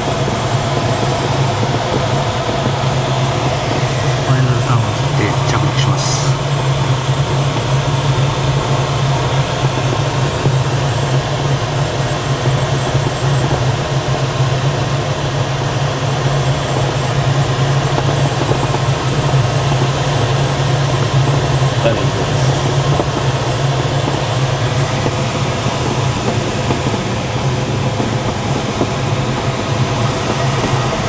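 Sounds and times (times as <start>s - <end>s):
airflow rushing in cockpit: 0.0s - 31.0s
steady low hum: 0.0s - 31.0s.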